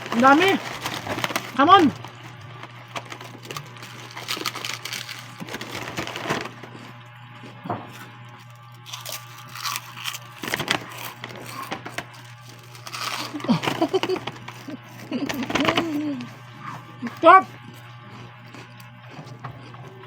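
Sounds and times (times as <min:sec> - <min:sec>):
chewing crunches and clicks: 0:00.0 - 0:16.3, 0:17.1 - 0:20.0
steady low hum: 0:00.0 - 0:20.0.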